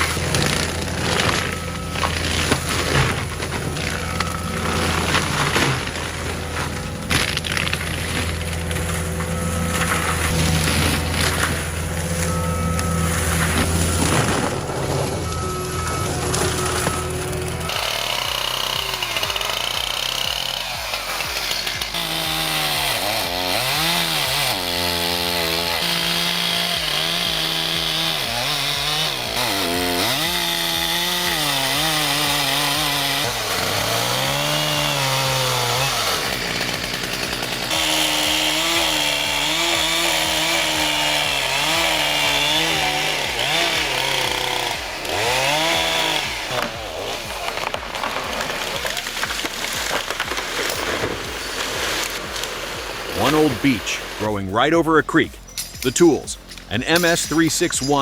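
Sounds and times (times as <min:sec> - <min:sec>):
chainsaw revving under load: 0:00.0 - 0:54.4.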